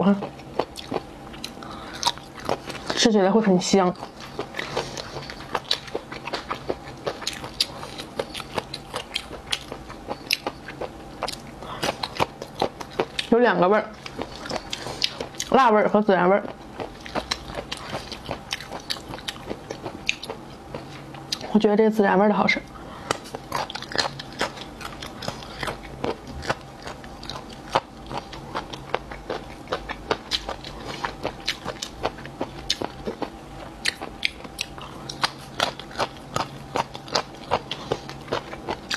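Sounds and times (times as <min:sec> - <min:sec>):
crunchy chewing of cartilage: 0:00.1 - 0:15.8, 0:16.4 - 0:21.6, 0:22.6 - 0:38.9.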